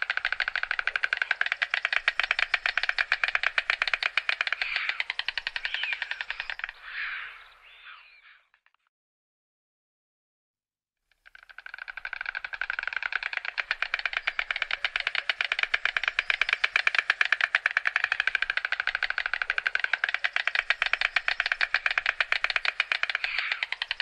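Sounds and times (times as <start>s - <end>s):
stork clattering bill: 0.0s - 7.0s, 11.2s - 24.0s.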